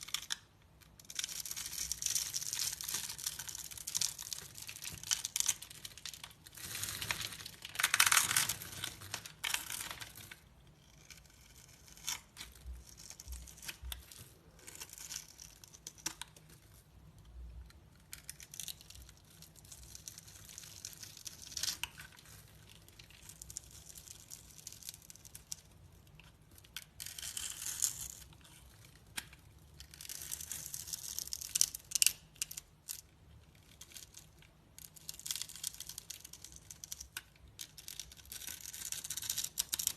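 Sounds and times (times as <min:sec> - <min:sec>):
knife scraping bar soap: 0:01.0 - 0:16.5, 0:17.9 - 0:33.0, 0:33.6 - 0:39.9.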